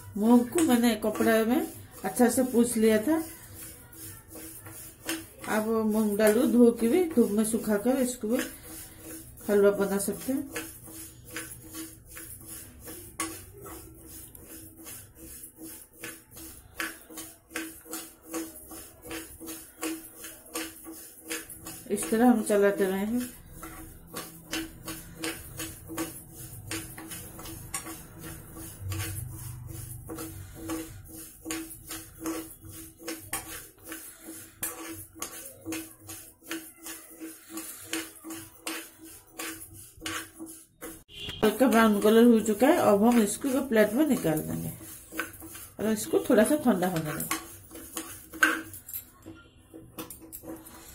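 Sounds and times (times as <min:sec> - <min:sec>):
lentils rattling in a pan: 0:00.0 - 0:49.2, 0:49.8 - 0:50.9.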